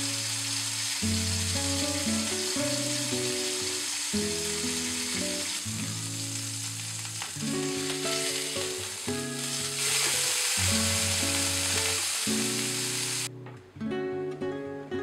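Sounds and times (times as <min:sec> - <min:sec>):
fish sizzling in oil: 0:00.0 - 0:13.3
background music: 0:00.0 - 0:15.0.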